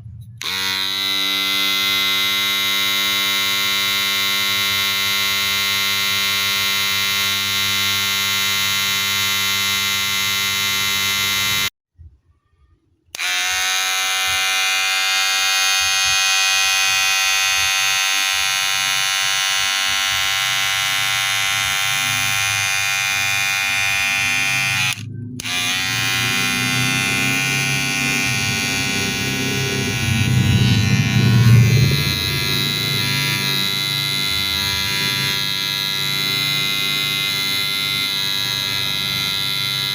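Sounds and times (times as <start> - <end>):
hair clipper buzzing: 0.0 - 11.7, 13.1 - 39.9.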